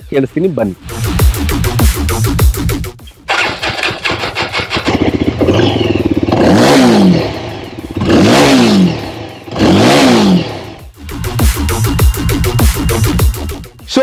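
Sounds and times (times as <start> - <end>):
motorcycle engine idling and revving: 0.8 - 13.8.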